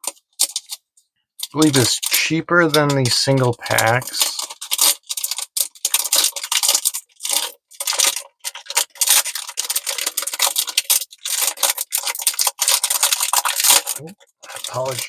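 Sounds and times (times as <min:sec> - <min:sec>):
plastic packaging crinkling: 0:00.0 - 0:00.8, 0:01.4 - 0:15.0.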